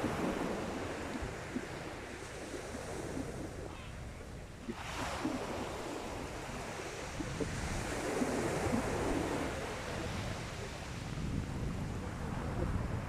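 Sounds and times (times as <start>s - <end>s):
sea waves washing on beach: 0.0s - 13.0s
wind rumbling on microphone: 0.0s - 13.0s.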